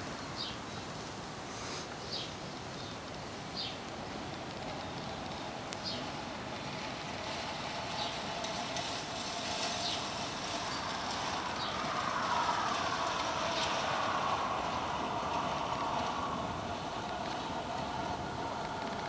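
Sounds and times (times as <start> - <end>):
reel mower whirring and clattering: 3.1 - 19.0.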